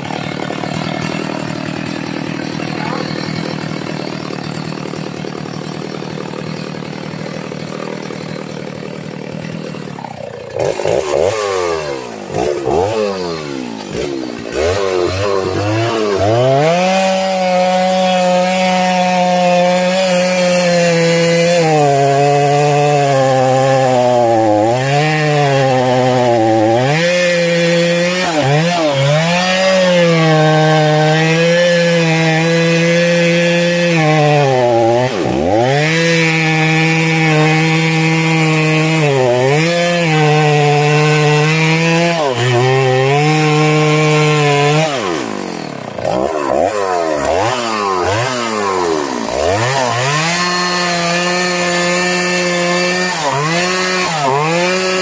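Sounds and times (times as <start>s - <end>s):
chainsaw cutting wood: 0.0s - 55.0s
chainsaw engine revving: 0.0s - 55.0s.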